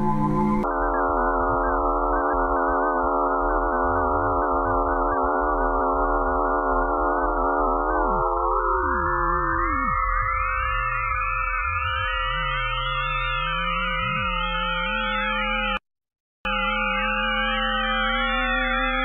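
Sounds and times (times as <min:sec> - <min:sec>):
eerie electronic drone: 0:00.0 - 0:15.8, 0:16.5 - 0:19.0.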